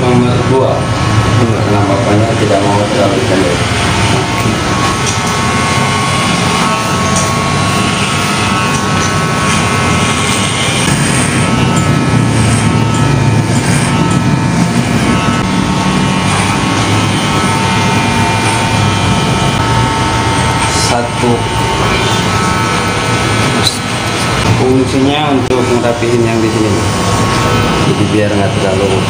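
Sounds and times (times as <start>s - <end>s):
electric hair clipper buzzing: 0.0s - 29.0s.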